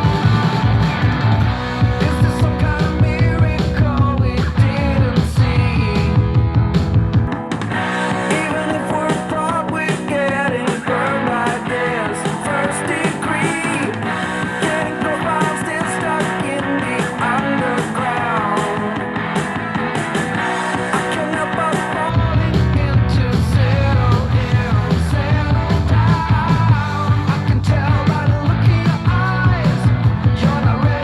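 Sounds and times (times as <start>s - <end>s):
heavy bass: 0.0s - 31.0s
rock song with singing: 0.0s - 31.0s.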